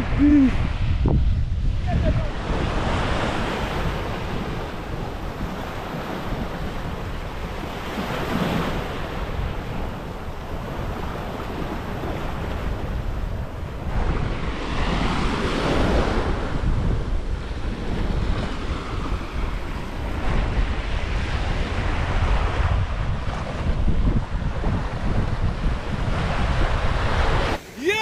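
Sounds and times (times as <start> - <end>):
surf washing onto beach: 0.0 - 28.0
wind buffeting microphone: 0.0 - 28.0.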